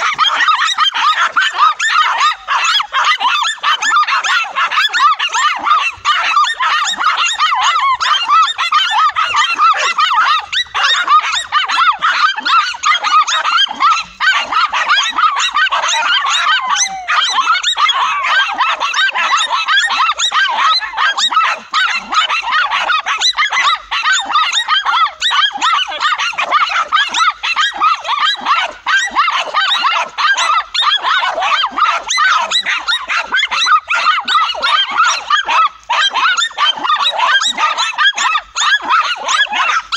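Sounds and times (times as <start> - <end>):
dogs barking and yelping: 0.0 - 39.9.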